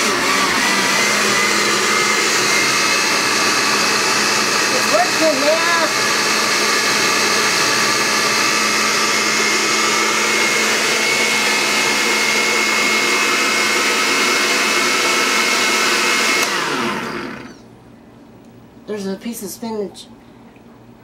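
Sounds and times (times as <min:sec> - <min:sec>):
blender motor whining: 0:00.0 - 0:17.6.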